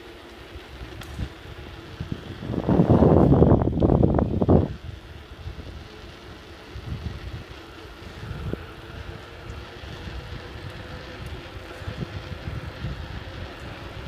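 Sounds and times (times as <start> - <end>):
rushing noise from riding: 0.0 - 14.0
wind buffeting microphone: 0.7 - 14.0.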